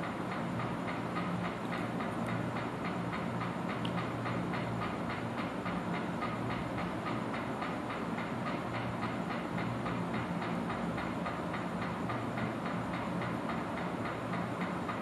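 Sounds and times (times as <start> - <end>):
mechanical rumble and hum: 0.0 - 15.0.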